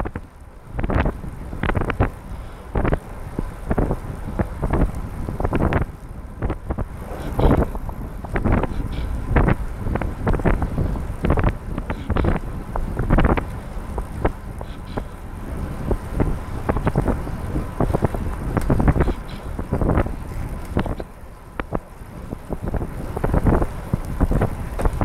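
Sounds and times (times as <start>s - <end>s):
low rumble from wet road: 0.0s - 25.0s
wind buffeting microphone: 0.0s - 25.0s.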